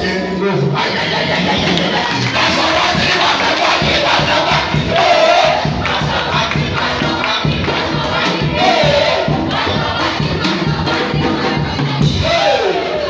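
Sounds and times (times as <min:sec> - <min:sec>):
congregation shouting and cheering: 0:00.0 - 0:13.0
music with steady beat: 0:00.9 - 0:13.0.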